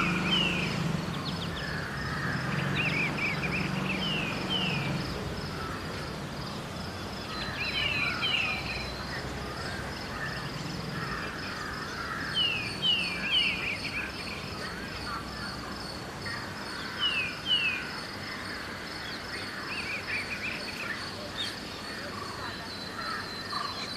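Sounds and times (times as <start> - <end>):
distant traffic hum: 0.0 - 23.9
high insect trill: 0.0 - 23.9
songbirds chirping: 0.0 - 23.9.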